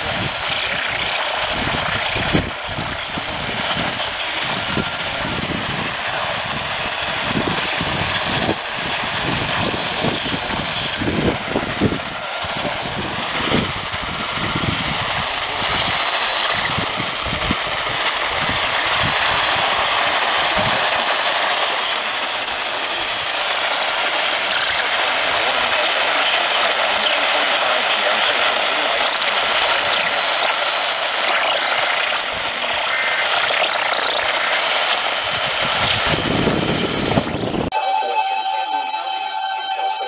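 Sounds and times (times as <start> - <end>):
radio static hiss: 0.0 - 35.4.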